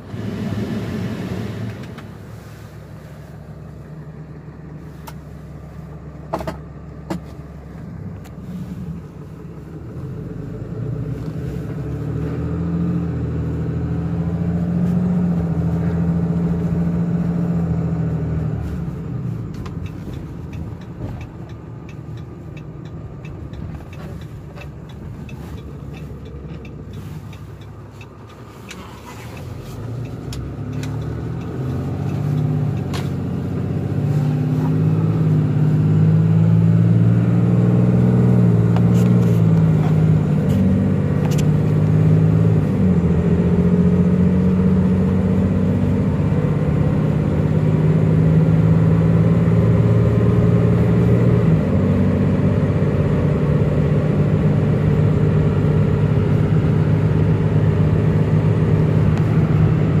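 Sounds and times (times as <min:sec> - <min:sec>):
transmission gear shifts: 0:00.0 - 1:00.0
truck diesel engine accelerating: 0:00.0 - 1:00.0.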